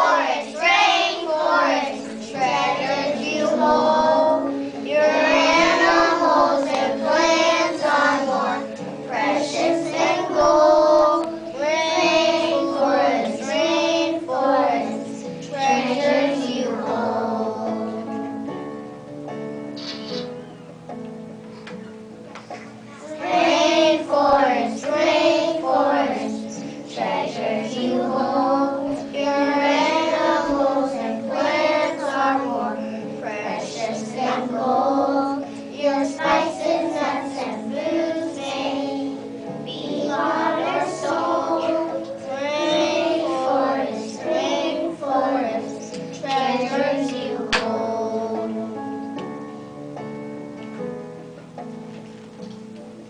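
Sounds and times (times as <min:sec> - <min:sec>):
children singing together: 0:00.0 - 0:18.6, 0:22.5 - 0:49.3
instrumental accompaniment: 0:00.0 - 0:53.0.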